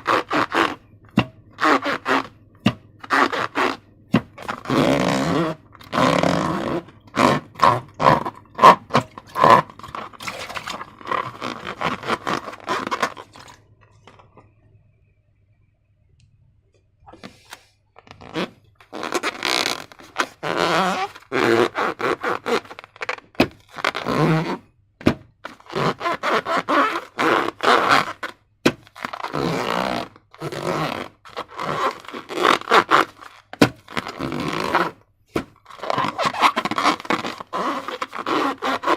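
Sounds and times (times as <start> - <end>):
slime scraped by hand: 0.0 - 13.6, 17.1 - 24.6, 25.5 - 38.9.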